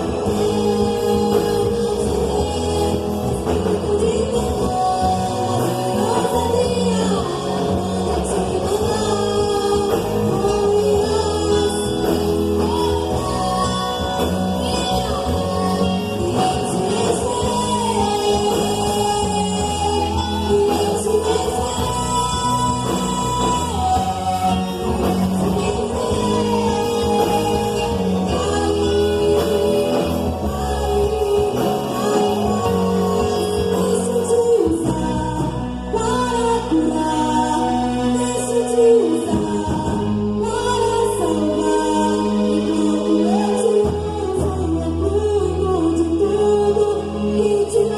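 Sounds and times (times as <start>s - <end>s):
band music: 0.0s - 47.9s
bass line: 0.0s - 47.9s
person singing: 0.0s - 47.9s.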